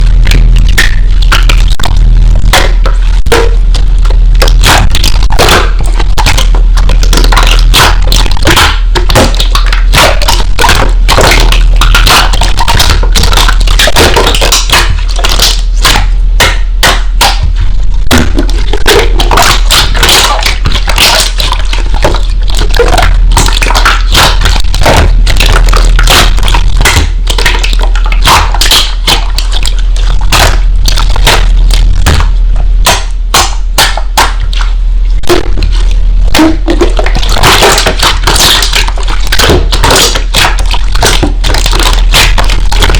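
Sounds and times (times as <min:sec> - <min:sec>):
slime crackling and popping: 0:00.0 - 0:42.9
steady low hum: 0:00.0 - 0:42.9.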